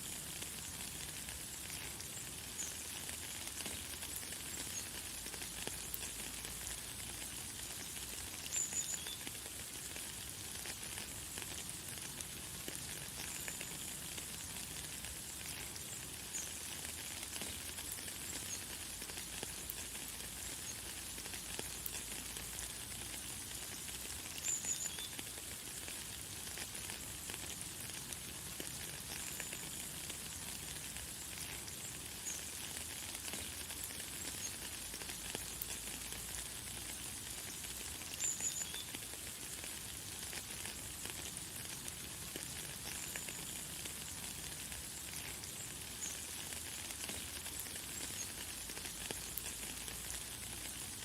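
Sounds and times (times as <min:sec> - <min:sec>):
light rain: 0:00.0 - 0:51.0.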